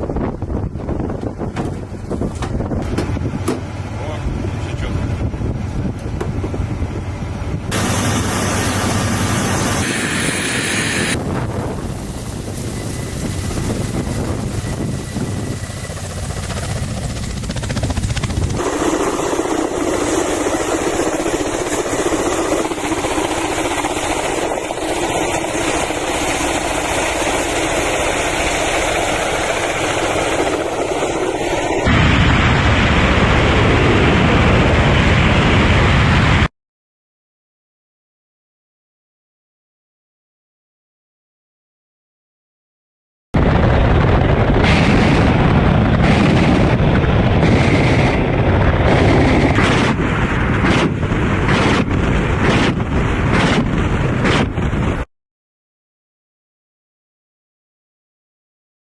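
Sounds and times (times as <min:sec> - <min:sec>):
helicopter engines and rotors: 0:00.0 - 0:36.5, 0:43.4 - 0:55.1.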